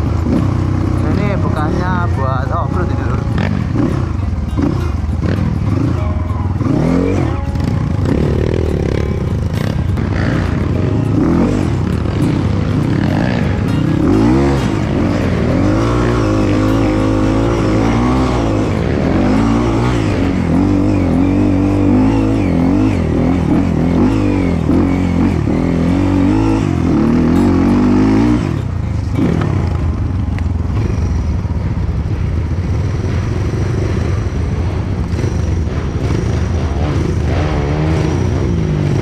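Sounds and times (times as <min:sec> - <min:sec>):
dirt bike engine idling: 0:00.0 - 0:37.3
dirt bike engine revving: 0:00.0 - 0:39.0.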